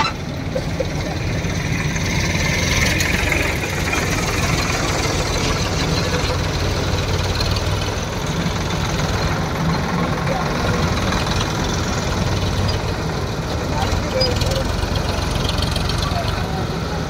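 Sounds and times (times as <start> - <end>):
diesel engines idling: 0.0 - 17.0.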